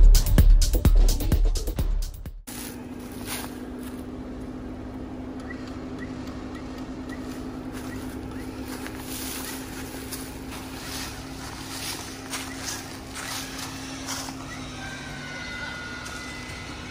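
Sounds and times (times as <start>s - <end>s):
car engine running: 0.0s - 16.9s.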